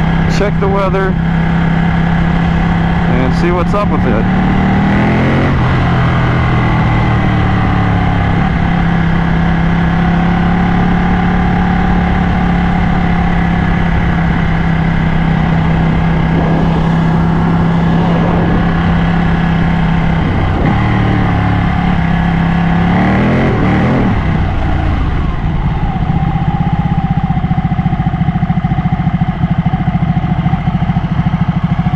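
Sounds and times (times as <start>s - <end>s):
motorcycle engine cruising: 0.0s - 31.9s
wind noise: 2.0s - 28.5s.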